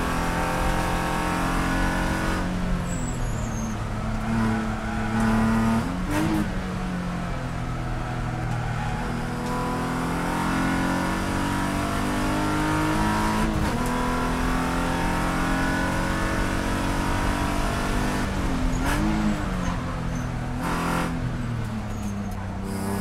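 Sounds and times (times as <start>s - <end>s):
race car engine accelerating: 0.0s - 6.9s, 8.0s - 23.0s.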